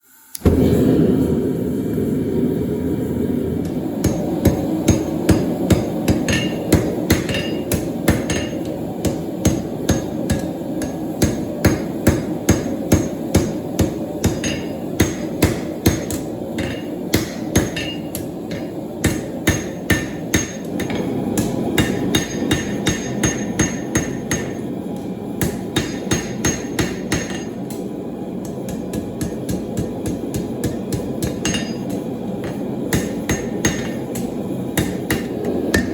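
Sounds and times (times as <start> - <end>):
hammer ringing on anvil: 4.0 - 24.7, 25.4 - 27.8, 28.4 - 35.9.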